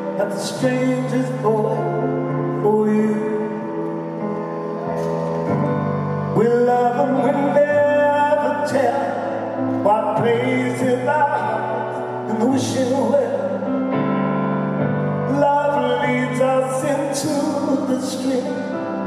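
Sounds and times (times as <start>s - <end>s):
man singing: 0.0s - 4.2s, 5.1s - 14.0s, 15.0s - 19.0s
piano and keyboard chords: 0.0s - 19.0s.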